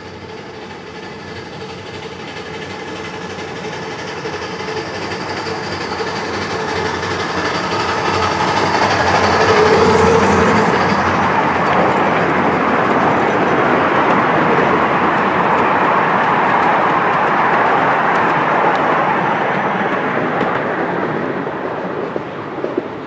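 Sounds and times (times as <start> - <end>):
miniature steam train passing: 0.0 - 23.0
wheels rumbling along rails: 0.0 - 23.0.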